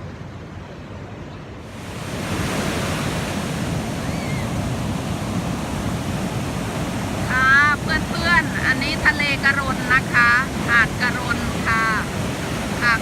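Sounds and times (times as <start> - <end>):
waves breaking on beach: 1.6 - 13.0.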